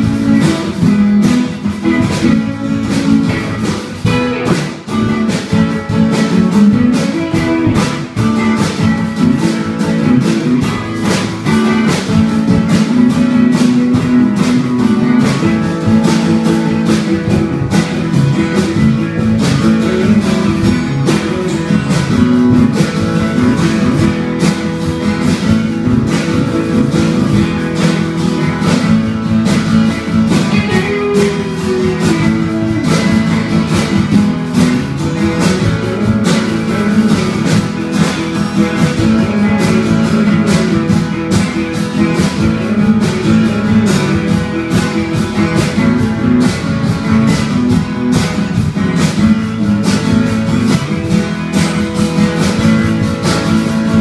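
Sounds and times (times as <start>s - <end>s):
electric guitars playing: 0.0s - 54.0s.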